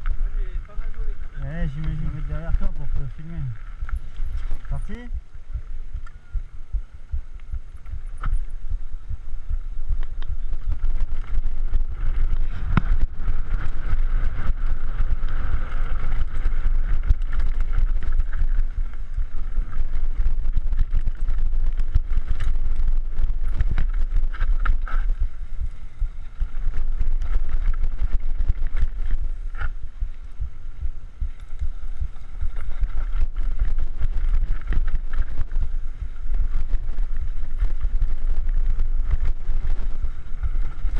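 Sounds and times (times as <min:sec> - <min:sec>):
low rumble: 0:00.0 - 0:40.9
mid-pitched whine: 0:00.0 - 0:40.9
wind buffeting microphone: 0:00.0 - 0:40.9
bike rattles and knocks: 0:07.1 - 0:30.6, 0:31.2 - 0:40.9.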